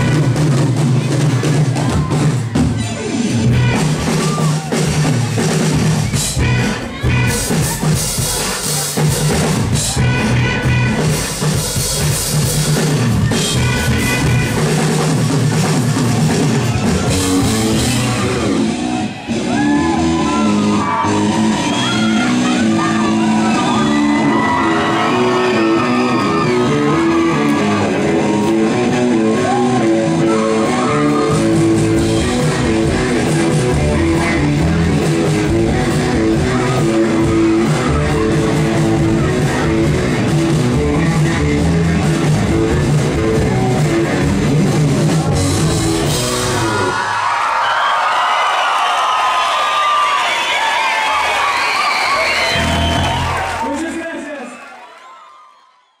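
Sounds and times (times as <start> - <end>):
deep bass: 0.0 - 8.2, 9.0 - 46.8, 52.4 - 53.6
live rock band playing: 0.0 - 47.1, 52.0 - 53.6
crowd shouting and singing along: 0.0 - 56.0.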